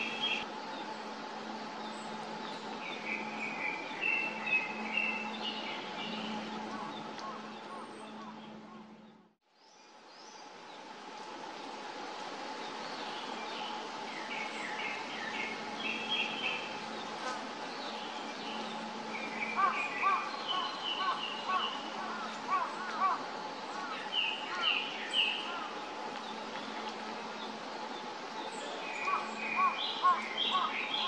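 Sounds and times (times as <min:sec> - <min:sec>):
distant thrush singing: 0:00.0 - 0:10.5, 0:12.8 - 0:31.0
steady hiss and hum: 0:00.0 - 0:31.0.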